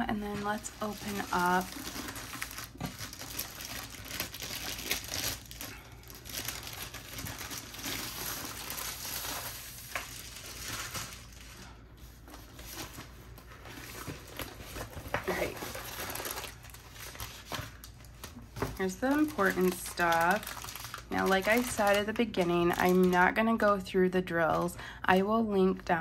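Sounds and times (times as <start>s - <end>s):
plastic wrap crinkling: 0.0s - 23.4s.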